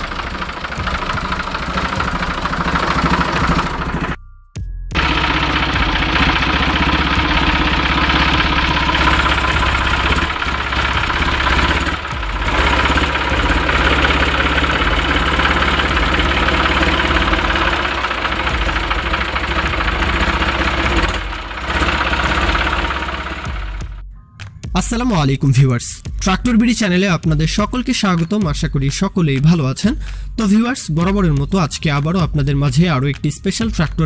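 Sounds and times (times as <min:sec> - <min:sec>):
tractor diesel engine idling: 0:00.0 - 0:04.2, 0:05.0 - 0:24.0, 0:24.7 - 0:34.0.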